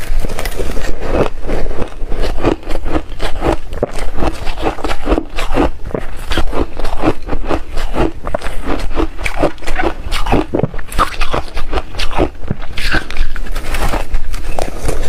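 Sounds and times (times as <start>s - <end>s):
chewing crunchy ice: 0.0s - 15.0s.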